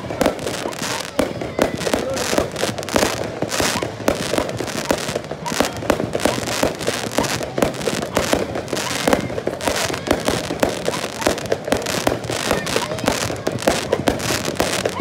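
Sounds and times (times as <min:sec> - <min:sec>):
fireworks bursting with bangs and crackles: 0:00.0 - 0:15.0.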